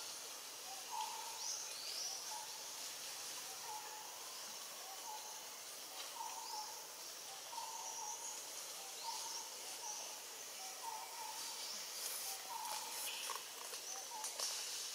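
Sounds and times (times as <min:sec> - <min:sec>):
forest background hiss: 0:00.0 - 0:14.9.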